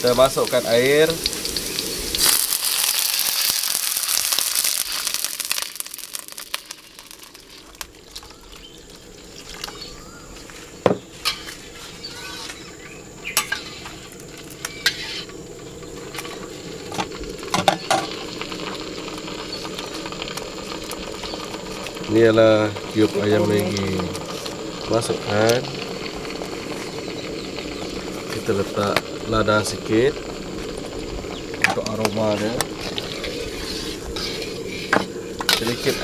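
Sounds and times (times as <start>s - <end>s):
water sizzling in hot oil: 0.0s - 36.0s.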